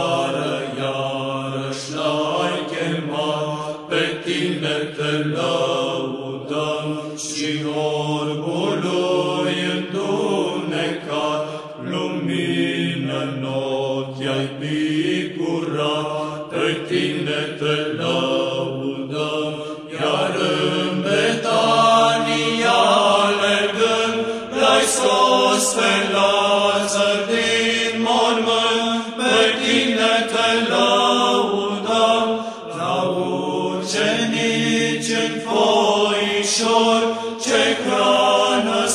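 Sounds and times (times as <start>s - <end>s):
voices singing religious chant: 0.0s - 38.9s.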